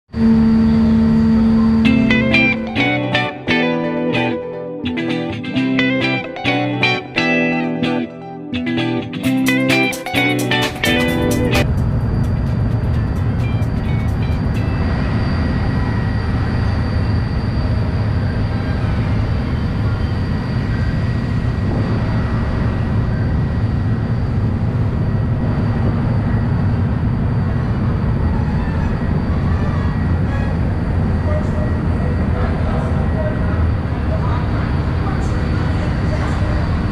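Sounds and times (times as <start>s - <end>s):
ferry engines low rumble: 0.1s - 3.8s, 10.1s - 36.9s
faint high whine: 0.1s - 4.4s, 11.1s - 36.9s.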